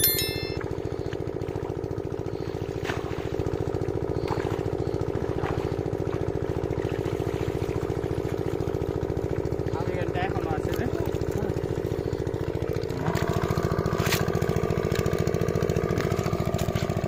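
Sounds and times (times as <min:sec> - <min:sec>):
small engine running: 0:00.0 - 0:17.0
water splashes: 0:01.4 - 0:17.0.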